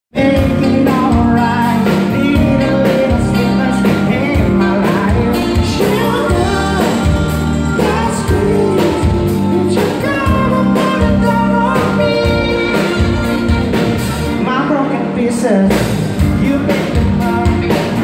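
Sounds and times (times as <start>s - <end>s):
live band playing amplified music: 0.1s - 18.0s
person singing: 0.1s - 18.0s.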